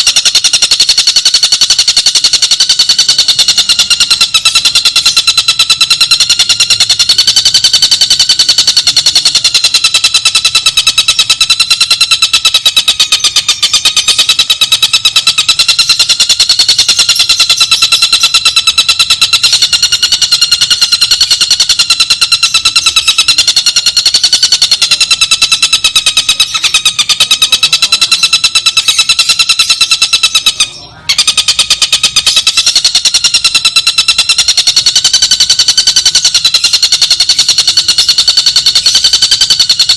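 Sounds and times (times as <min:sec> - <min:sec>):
kingfisher rattling trill: 0:00.0 - 0:39.9.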